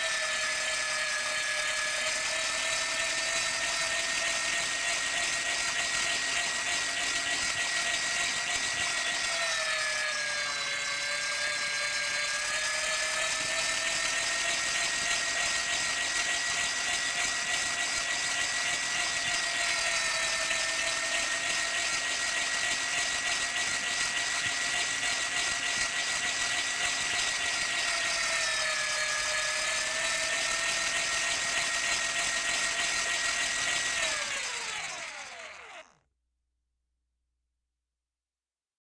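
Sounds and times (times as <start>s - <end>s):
meat grinder motor whine: 0.0s - 36.0s.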